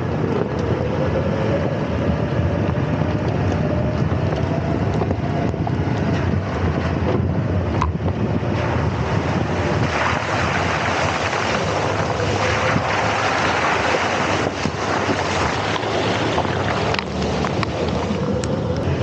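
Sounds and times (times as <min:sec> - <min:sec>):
vehicle rumble: 0:00.0 - 0:19.0
wind buffeting microphone: 0:00.0 - 0:19.0.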